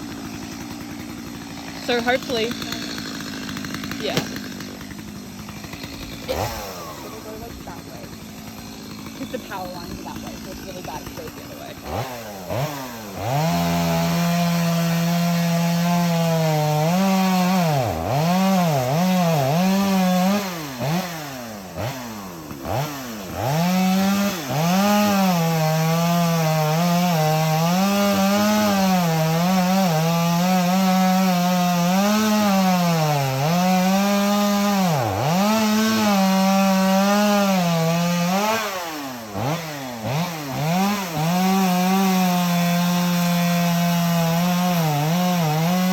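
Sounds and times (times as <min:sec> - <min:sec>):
chainsaw cutting tree trunk: 0:00.0 - 0:45.9.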